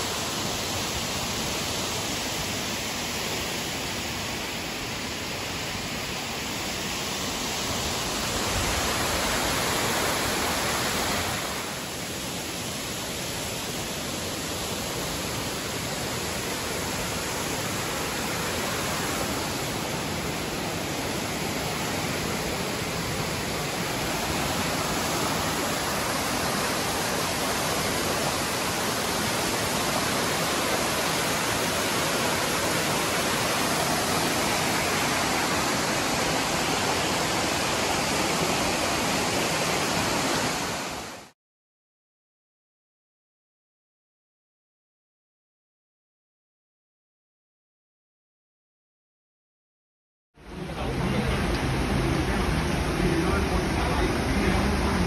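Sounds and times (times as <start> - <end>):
waterfall rushing: 0.0 - 41.3, 50.4 - 55.0.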